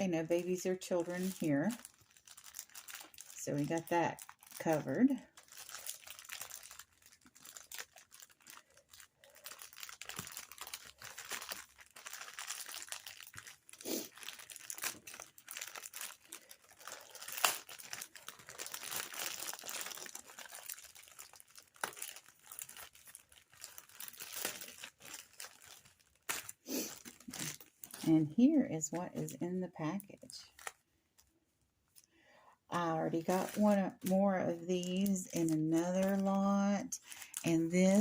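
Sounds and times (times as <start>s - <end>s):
packaging crinkling and rustling: 0.1s - 31.4s, 32.8s - 38.0s.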